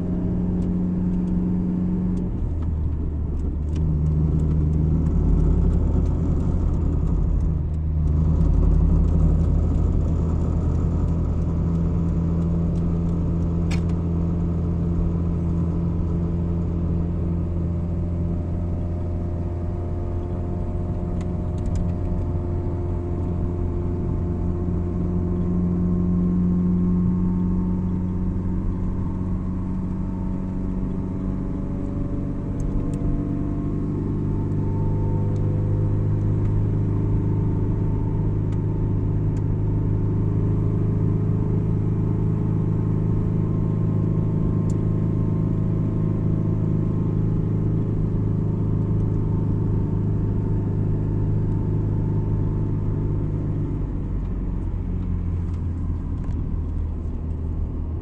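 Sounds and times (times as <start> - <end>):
car engine drone: 0.0 - 58.0
road noise: 0.0 - 58.0.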